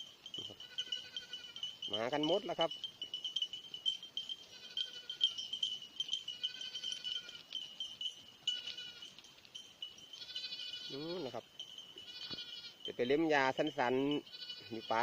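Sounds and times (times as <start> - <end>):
small bells chiming: 0.0 - 15.0.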